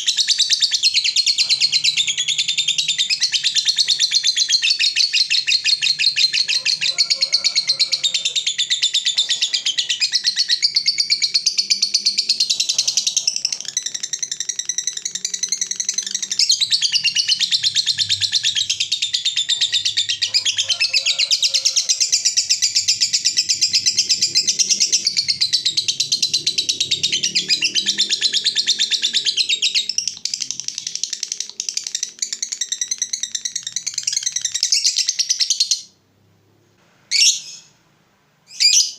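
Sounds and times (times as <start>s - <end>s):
bird chattering trill: 0.0s - 35.8s.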